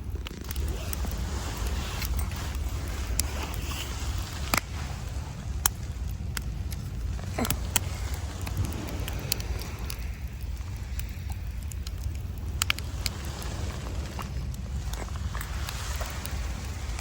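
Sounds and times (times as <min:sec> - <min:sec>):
waves breaking on beach: 0:00.0 - 0:17.0
wood campfire crackling: 0:00.0 - 0:17.0.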